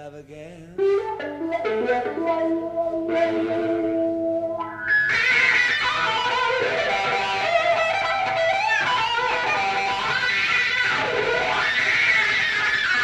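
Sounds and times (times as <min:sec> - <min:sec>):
blues rock band playing: 0:00.8 - 0:13.0
lead electric guitar: 0:00.8 - 0:13.0.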